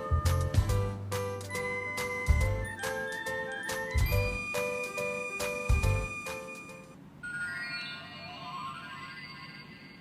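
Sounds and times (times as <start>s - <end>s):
tinkly electronic music: 1.5s - 10.0s.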